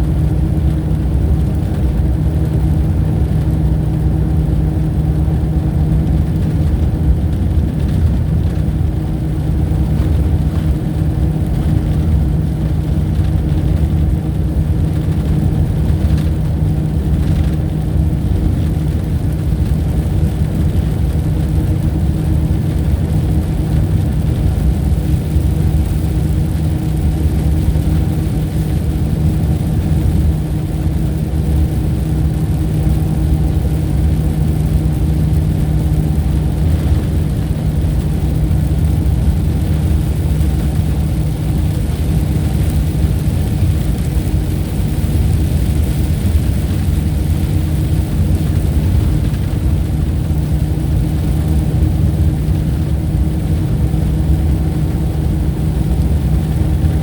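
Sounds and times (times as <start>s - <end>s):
low engine-like drone: 0.0s - 57.0s.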